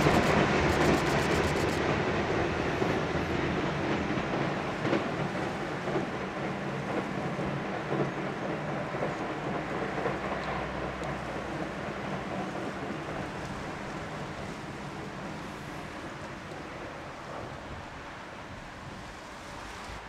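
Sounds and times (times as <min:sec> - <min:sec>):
train rolling over bridge: 0:00.0 - 0:20.0.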